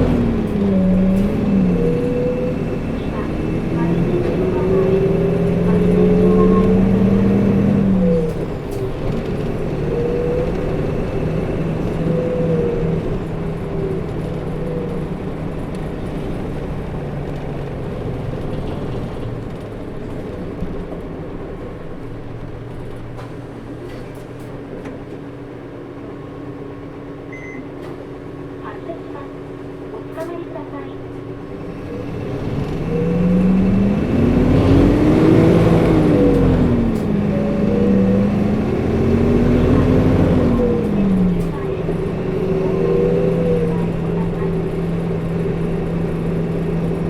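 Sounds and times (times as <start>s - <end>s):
bus engine accelerating: 0.0s - 47.0s.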